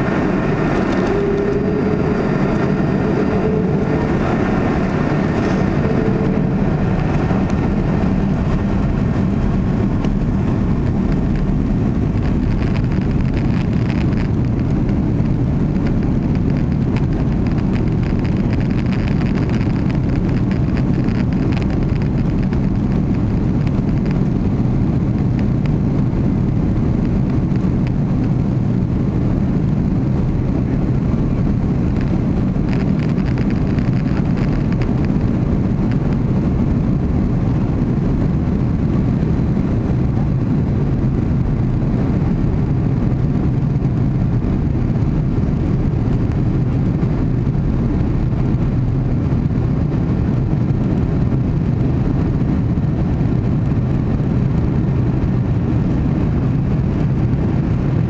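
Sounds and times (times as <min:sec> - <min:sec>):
faint engine whine: 0:00.0 - 0:58.0
jet engines humming and rumbling: 0:00.0 - 0:58.0.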